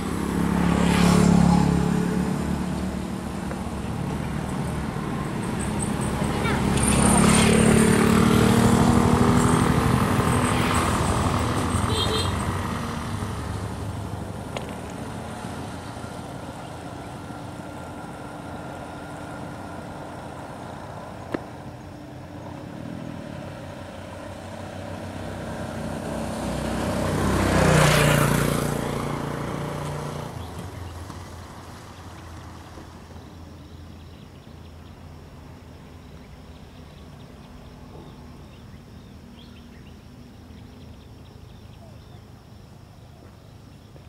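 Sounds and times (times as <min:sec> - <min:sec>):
motor vehicle passing by: 0:00.0 - 0:42.5.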